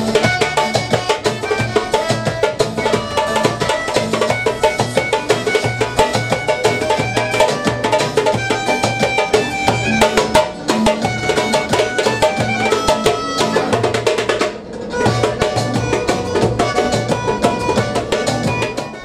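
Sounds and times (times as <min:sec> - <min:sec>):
hand drumming: 0:00.0 - 0:19.0
melodic backing track: 0:00.0 - 0:19.0.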